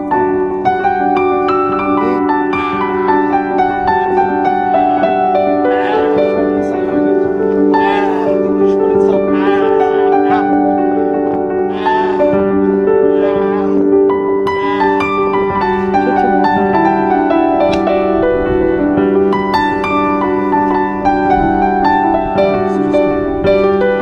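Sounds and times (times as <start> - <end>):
plucked notes over held chords: 0.0 - 24.0.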